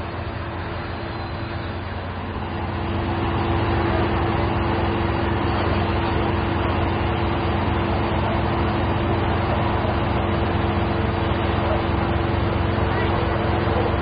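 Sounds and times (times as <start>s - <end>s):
idling engine drone: 0.0s - 14.0s
outdoor noise: 0.0s - 14.0s.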